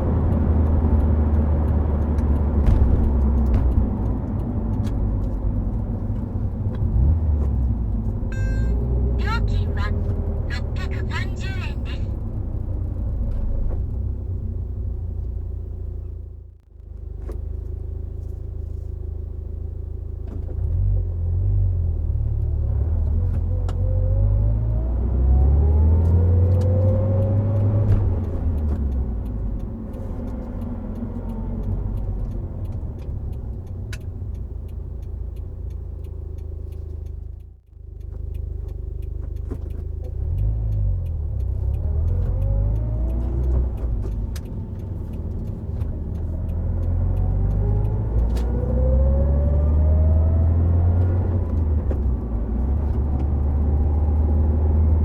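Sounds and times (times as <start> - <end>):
car engine accelerating: 0.0 - 55.0
road rumble: 0.0 - 55.0.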